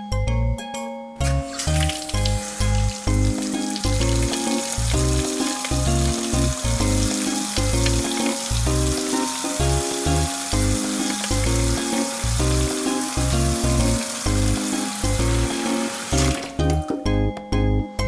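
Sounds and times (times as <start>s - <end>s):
bouncy background music: 0.0s - 18.0s
frying sizzle: 1.2s - 16.7s.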